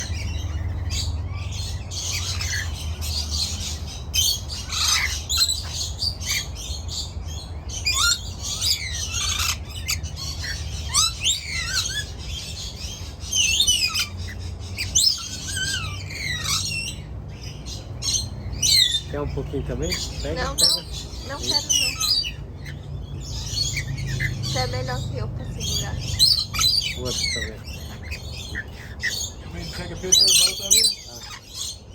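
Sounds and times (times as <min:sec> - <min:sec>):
budgerigars chattering: 0:00.0 - 0:31.9.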